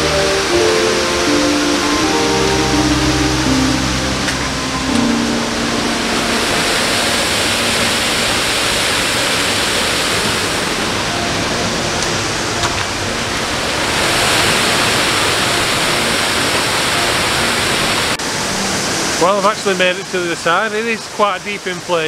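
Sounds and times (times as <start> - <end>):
waterfall rushing into a pool: 0.0 - 22.0.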